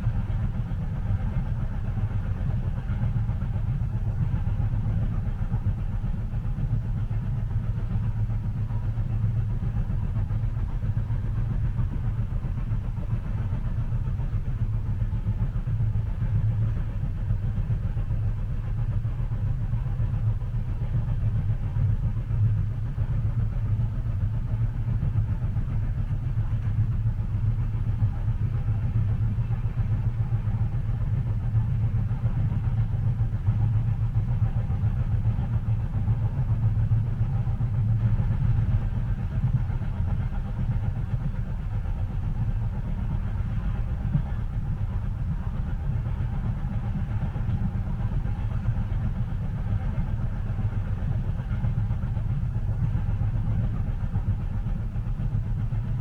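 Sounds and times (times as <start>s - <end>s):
train rumble inside cabin: 0.0s - 56.0s.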